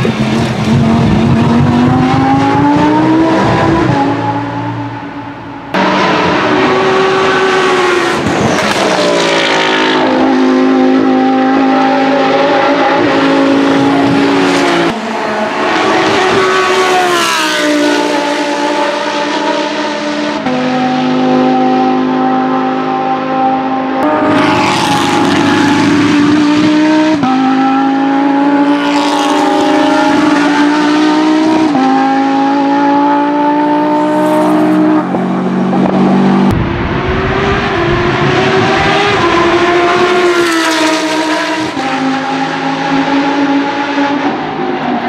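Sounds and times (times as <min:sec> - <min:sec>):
race car engine revving: 0:00.0 - 0:45.0.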